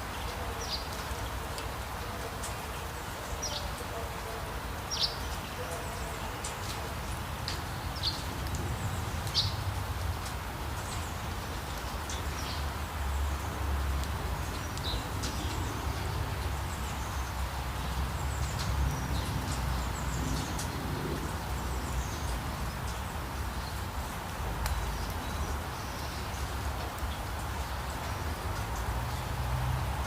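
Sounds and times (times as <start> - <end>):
rain hissing: 0.0 - 30.0.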